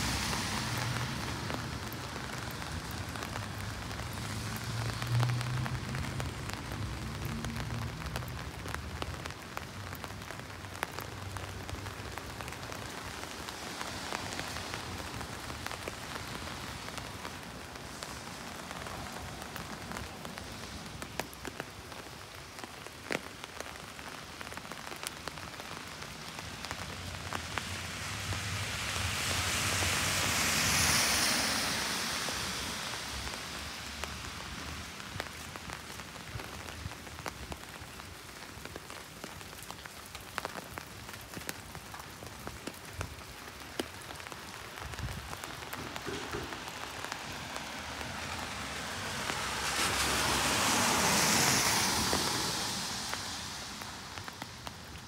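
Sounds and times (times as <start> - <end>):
low traffic rumble: 0.0 - 55.0
rain pattering on hard surfaces: 0.0 - 55.0.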